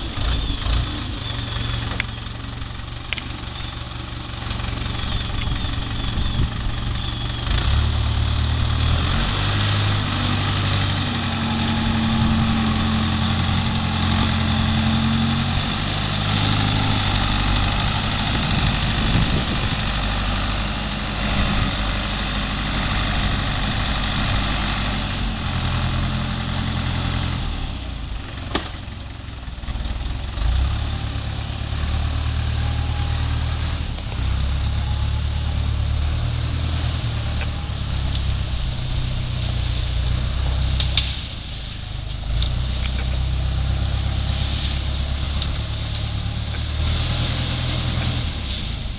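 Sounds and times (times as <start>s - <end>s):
backhoe engine running: 0.0s - 48.9s.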